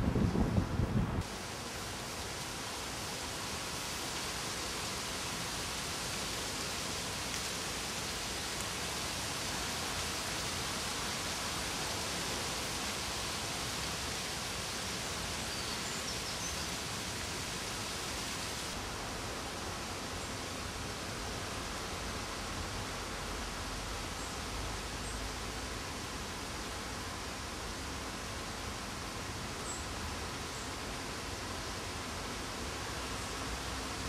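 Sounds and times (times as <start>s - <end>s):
rushing outdoor background noise: 0.0s - 34.0s.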